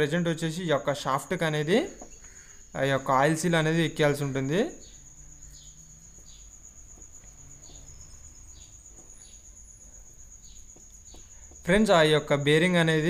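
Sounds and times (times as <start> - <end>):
high-pitched insect trill: 0.0 - 13.0
low background hum: 0.0 - 13.0.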